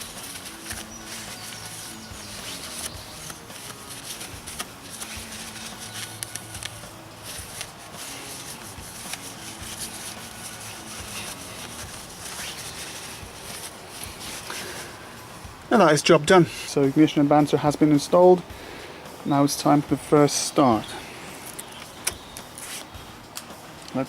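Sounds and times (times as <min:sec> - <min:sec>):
cloth rubbing on engine cover: 0:00.0 - 0:24.0.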